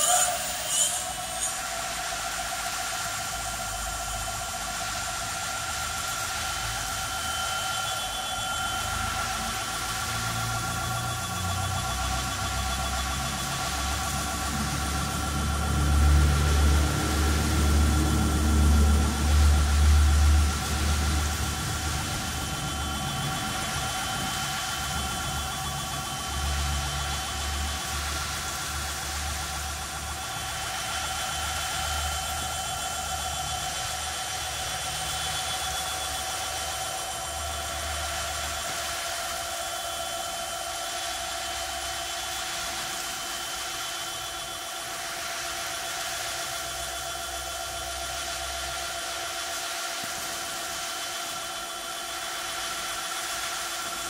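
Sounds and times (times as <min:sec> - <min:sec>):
hub motor whine: 0:00.0 - 0:54.0.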